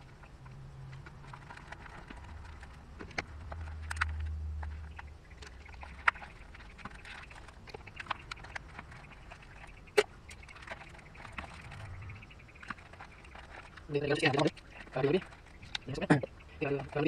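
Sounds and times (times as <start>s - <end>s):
small clicks taps and rustles: 0.0s - 17.0s.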